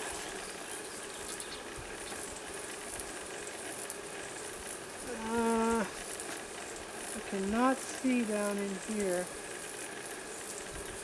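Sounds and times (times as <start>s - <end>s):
bees humming around a hive: 0.0s - 11.0s.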